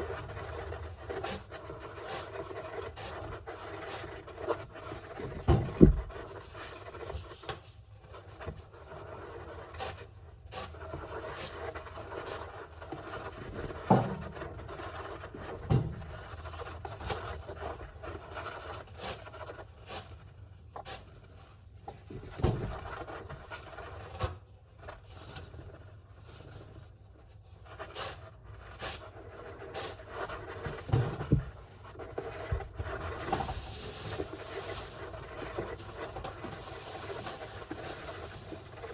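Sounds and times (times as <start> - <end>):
hamster scrabbling and scraping: 0.0 - 38.9.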